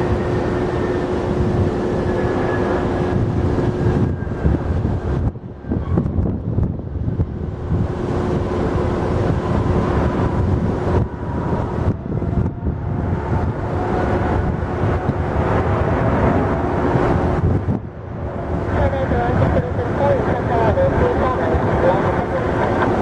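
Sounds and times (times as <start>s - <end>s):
jet engines rumbling and whining: 0.0s - 23.0s
wind buffeting microphone: 0.0s - 23.0s.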